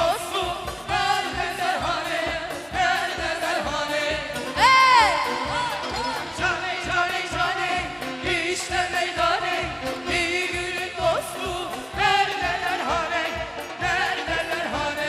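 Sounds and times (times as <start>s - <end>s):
folk-pop band with drum beat: 0.0s - 15.0s
person singing ornamented vocals: 0.0s - 15.0s.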